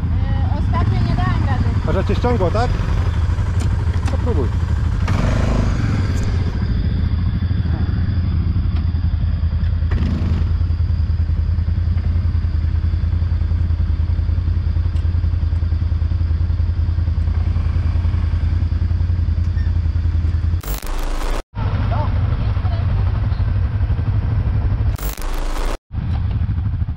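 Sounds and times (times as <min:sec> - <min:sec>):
quad bike engine humming: 0:00.0 - 0:26.9.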